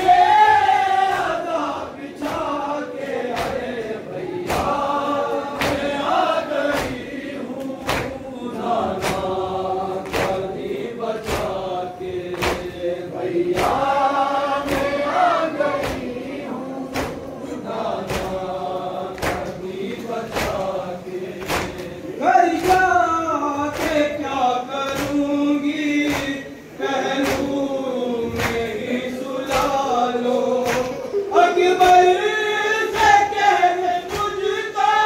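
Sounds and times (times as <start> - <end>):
men chanting in unison: 0.0 - 35.0
rhythmic chest slaps: 0.0 - 35.0.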